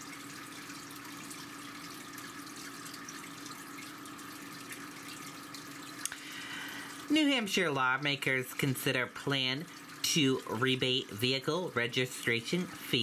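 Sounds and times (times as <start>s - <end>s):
low constant hum: 0.0s - 13.0s.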